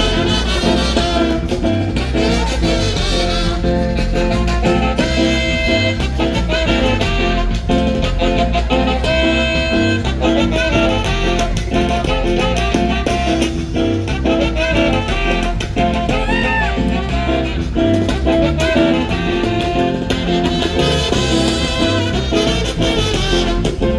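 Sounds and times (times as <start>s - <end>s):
latin dance band music: 0.0s - 23.9s.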